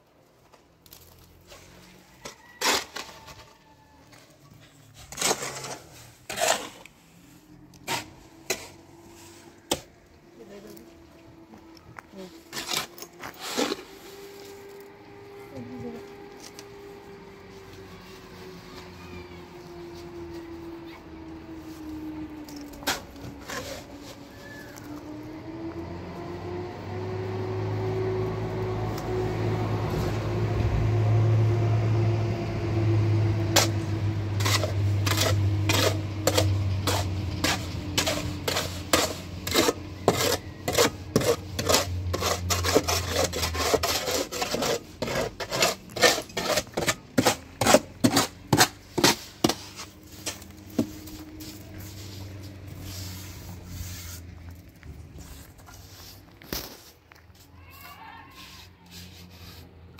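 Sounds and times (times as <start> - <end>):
hand tool scraping rough surface: 0.9 - 11.3, 11.9 - 21.1, 21.8 - 25.1, 33.3 - 59.9.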